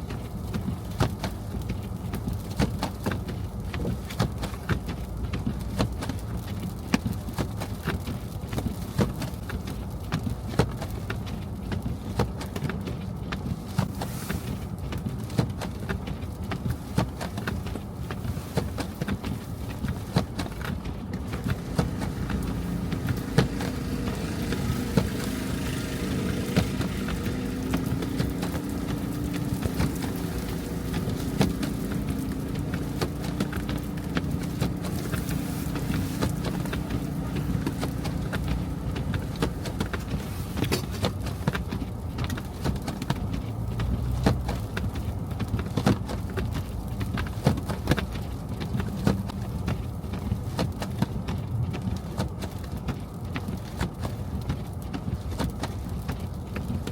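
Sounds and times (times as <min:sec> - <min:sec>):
car road rumble: 0:00.0 - 0:56.9.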